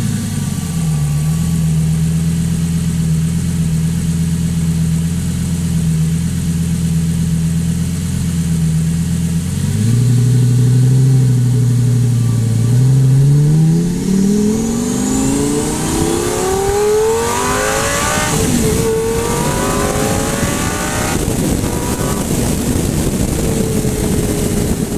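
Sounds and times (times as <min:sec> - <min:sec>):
sports car engine revving: 0:00.0 - 0:24.9.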